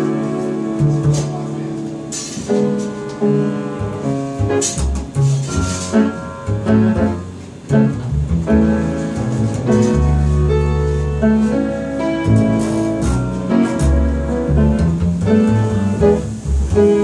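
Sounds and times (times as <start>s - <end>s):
double bass: 0.0s - 17.0s
piano: 0.0s - 17.0s.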